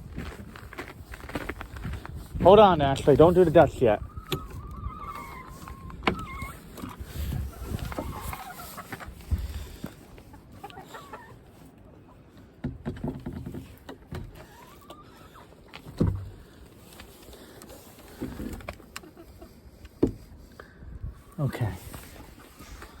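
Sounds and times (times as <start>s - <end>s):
chickens clucking: 2.4s - 20.4s, 21.1s - 23.0s.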